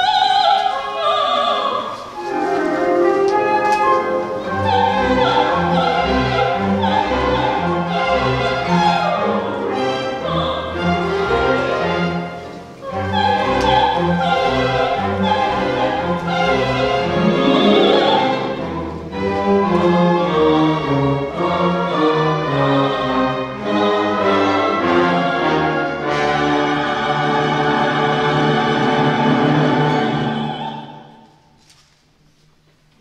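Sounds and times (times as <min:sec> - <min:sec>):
orchestral string music: 0:00.0 - 0:31.4.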